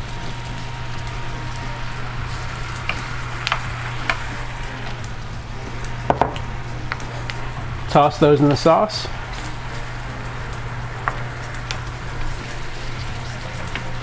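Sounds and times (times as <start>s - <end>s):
caramel sauce sizzling in skillet: 0.0s - 14.0s
steady low hum: 0.0s - 14.0s.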